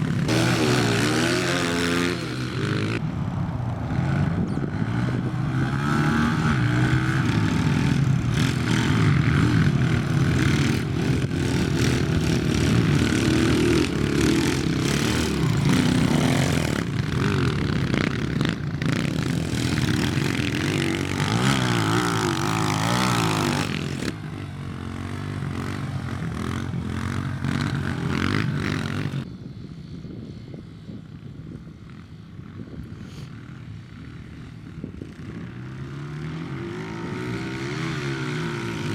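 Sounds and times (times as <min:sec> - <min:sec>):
pit bike engines revving: 0:00.0 - 0:29.3, 0:31.4 - 0:38.9.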